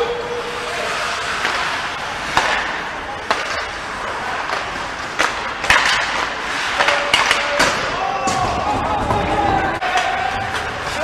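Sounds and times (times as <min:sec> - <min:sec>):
hockey sticks and puck clacking: 0:00.0 - 0:11.0
skates scraping on ice: 0:00.0 - 0:11.0.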